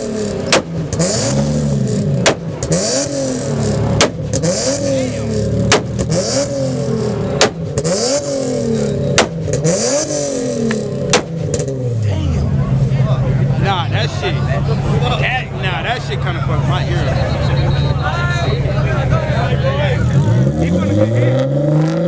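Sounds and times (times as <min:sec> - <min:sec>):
car exhaust revving: 0:00.0 - 0:22.0
exhaust bangs: 0:00.0 - 0:22.0.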